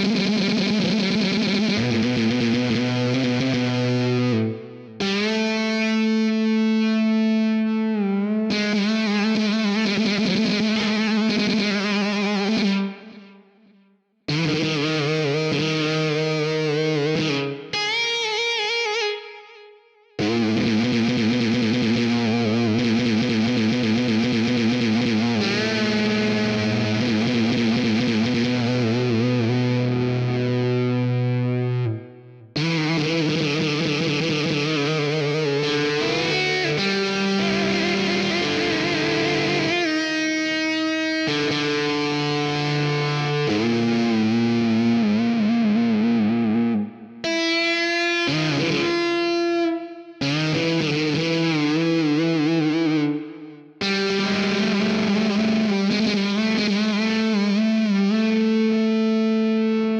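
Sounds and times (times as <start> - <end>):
distorted electric guitar: 0.0 - 13.5, 14.3 - 59.9.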